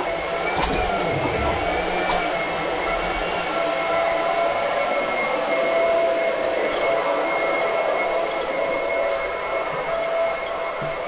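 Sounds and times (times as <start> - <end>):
electric pump motor whine: 0.0 - 11.0.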